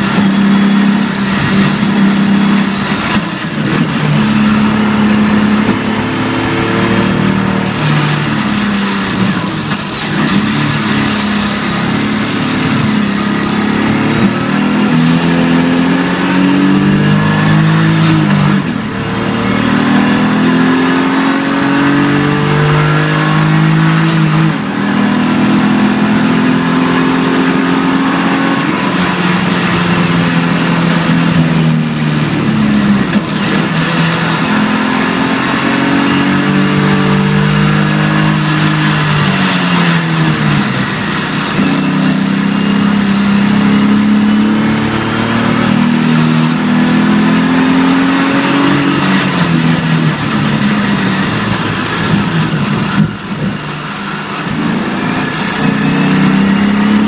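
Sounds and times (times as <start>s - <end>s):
car engine revving: 0.0s - 57.0s
road noise: 0.0s - 57.0s.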